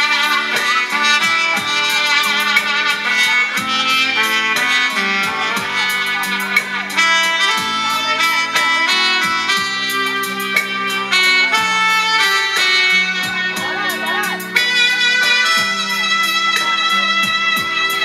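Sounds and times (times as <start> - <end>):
instrumental music with steady beat: 0.0 - 18.0.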